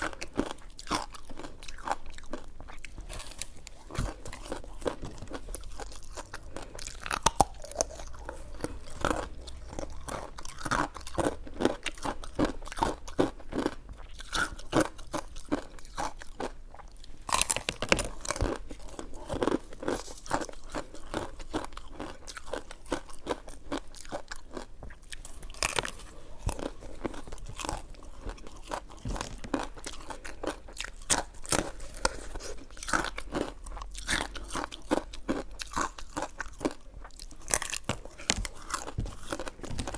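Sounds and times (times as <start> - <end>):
person chewing sticky food: 0.0 - 39.9.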